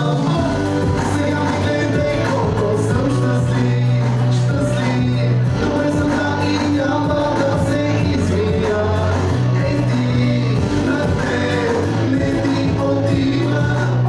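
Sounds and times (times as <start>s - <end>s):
singing over held bass notes: 0.0s - 14.0s.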